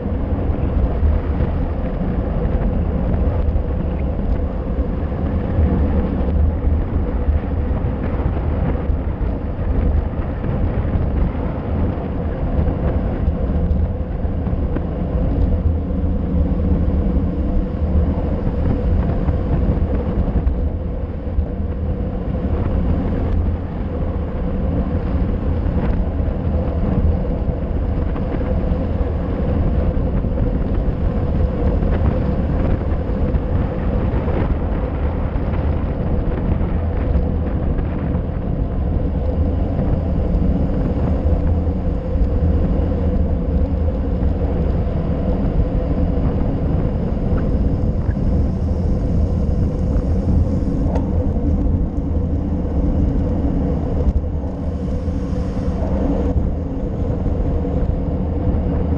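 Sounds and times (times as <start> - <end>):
bike tyres rumbling on asphalt: 0.0 - 58.9
wind rushing: 0.0 - 58.9.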